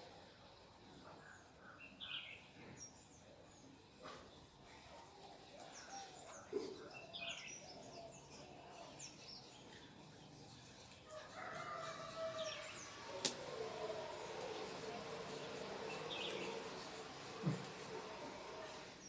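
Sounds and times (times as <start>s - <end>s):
birds chirping: 0.9s - 19.0s.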